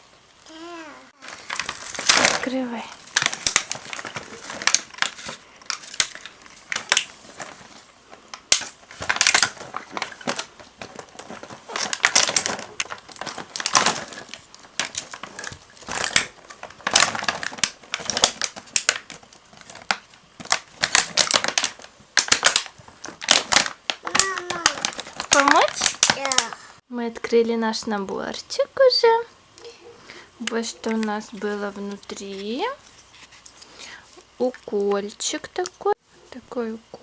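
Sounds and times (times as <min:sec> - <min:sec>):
clicks and rustles: 0:01.2 - 0:26.6, 0:30.4 - 0:35.9
plastic packaging crinkling: 0:01.2 - 0:26.6, 0:30.4 - 0:35.9.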